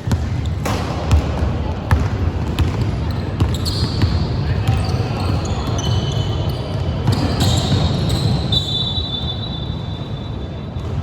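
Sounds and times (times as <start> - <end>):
sneakers squeaking: 0.0 - 11.0.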